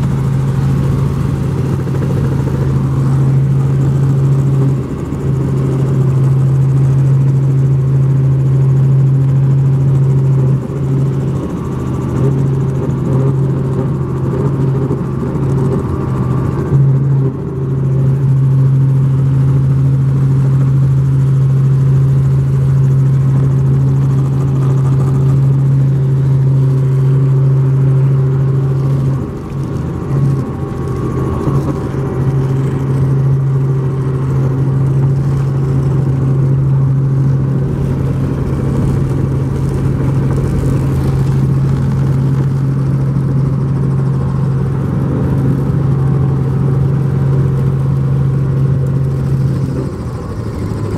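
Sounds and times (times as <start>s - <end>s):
helicopter engine and rotor drone: 0.0s - 50.9s.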